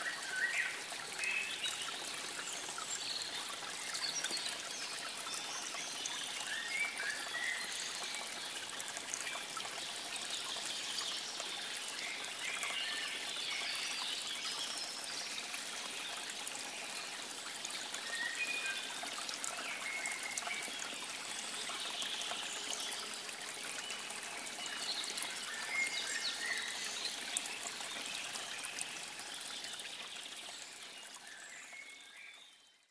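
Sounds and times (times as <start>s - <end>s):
water trickling: 0.0s - 32.8s.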